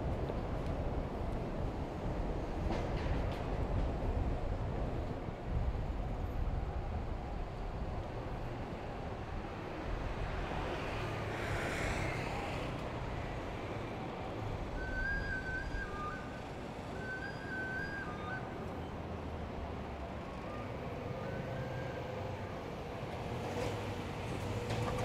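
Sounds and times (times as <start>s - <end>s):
city traffic rumble: 0.0s - 25.0s.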